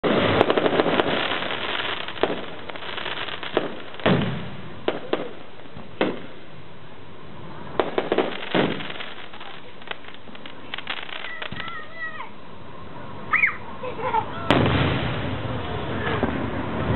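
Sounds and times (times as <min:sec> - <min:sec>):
fireworks crackling pops: 0:00.0 - 0:06.7, 0:07.4 - 0:12.2, 0:14.5 - 0:16.9
fireworks sharp bangs: 0:00.0 - 0:06.8, 0:07.4 - 0:12.2, 0:14.5 - 0:16.9.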